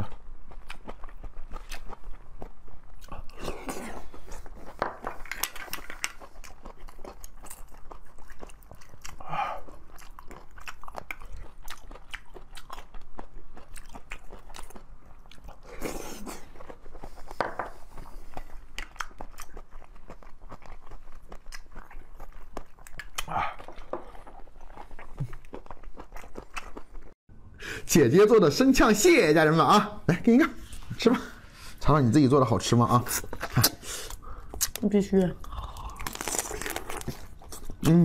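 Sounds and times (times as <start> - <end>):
close-miked chewing: 0.0 - 27.2, 33.1 - 38.0.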